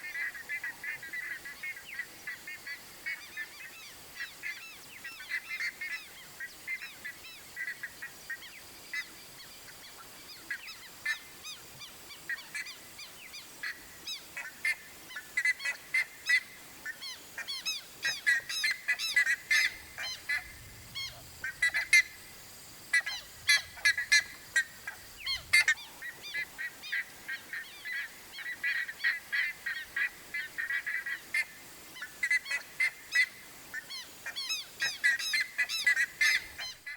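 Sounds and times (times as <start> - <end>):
ibis calling: 0.0 - 36.9.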